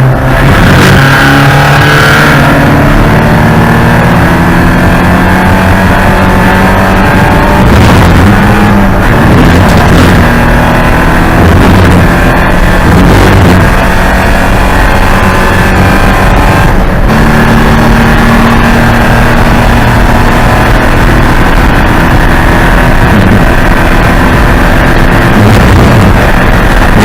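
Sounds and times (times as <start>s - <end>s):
race car engine under load: 0.0s - 27.0s.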